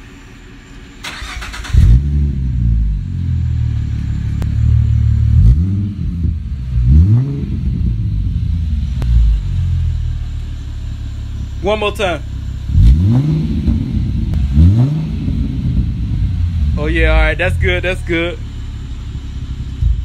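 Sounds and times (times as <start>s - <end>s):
car engine starting and revving: 1.0s - 20.0s.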